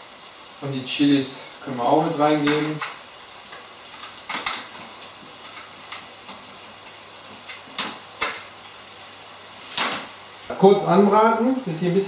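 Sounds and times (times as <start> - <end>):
shrimp sizzling in a pan: 0.0 - 12.0.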